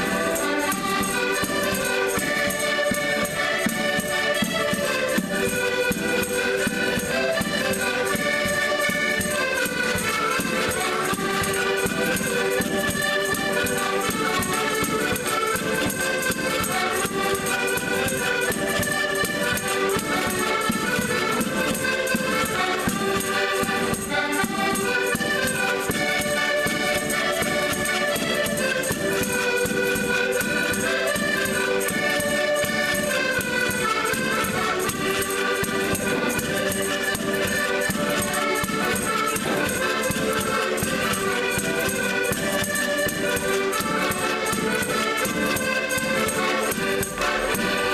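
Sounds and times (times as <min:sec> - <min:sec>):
accordions playing folk tune: 0:00.0 - 0:47.9.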